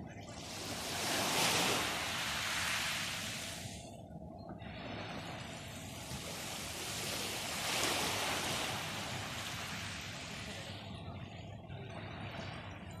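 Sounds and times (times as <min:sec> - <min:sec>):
faint low hum: 0:00.0 - 0:13.0
waves washing on shore: 0:00.0 - 0:13.0.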